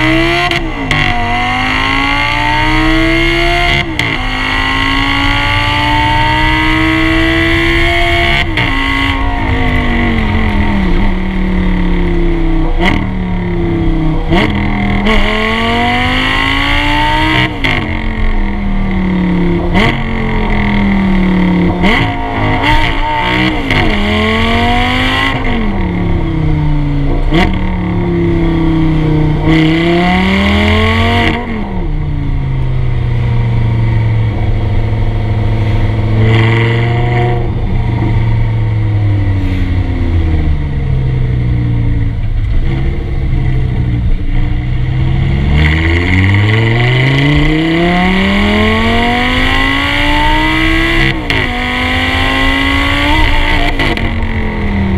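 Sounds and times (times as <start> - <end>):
road and wind noise: 0.0 - 54.9
sports car engine revving: 0.0 - 54.9.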